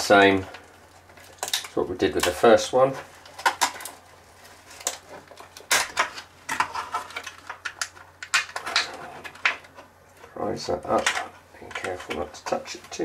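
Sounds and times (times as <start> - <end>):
plastic packaging clicks and rustles: 0.1 - 13.0.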